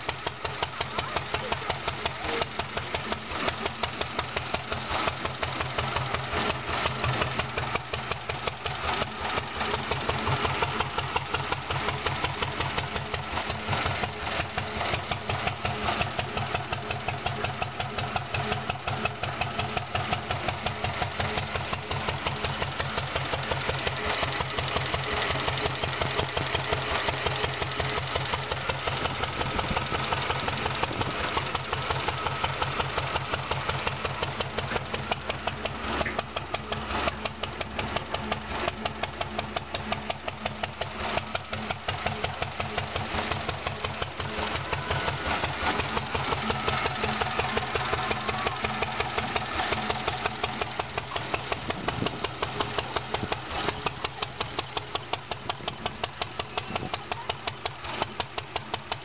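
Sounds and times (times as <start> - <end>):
single-cylinder engine running: 0.0 - 59.0.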